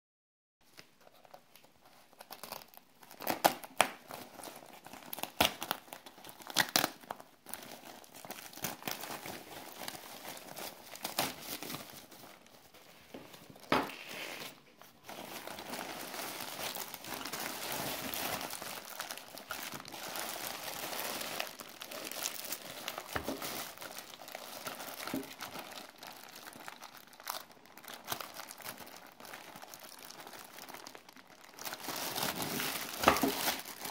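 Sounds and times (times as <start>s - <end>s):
plastic bag crinkling and rustling: 0.6s - 33.9s
plastic bag tearing: 2.1s - 33.9s.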